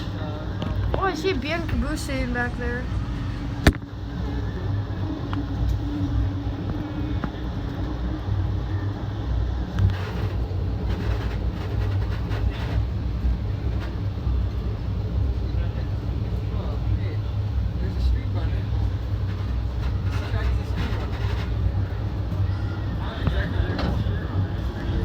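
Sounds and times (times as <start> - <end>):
train car rumble: 0.0 - 25.0.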